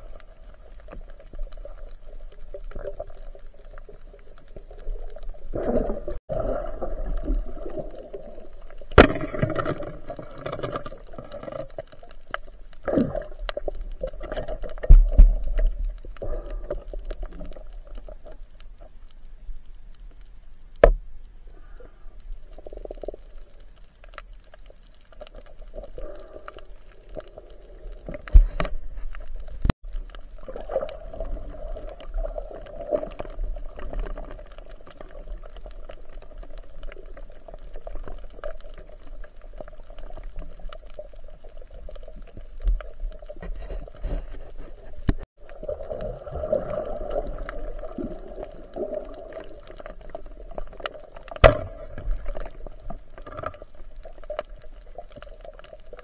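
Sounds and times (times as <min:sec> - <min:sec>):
underwater gurgling and sloshing: 0:00.0 - 0:56.0.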